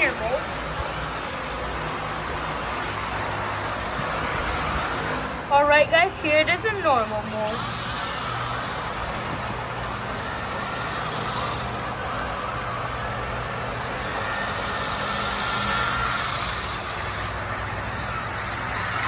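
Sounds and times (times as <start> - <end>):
steady low hum: 0.0 - 19.0
toy car electric motor whining: 0.0 - 19.0.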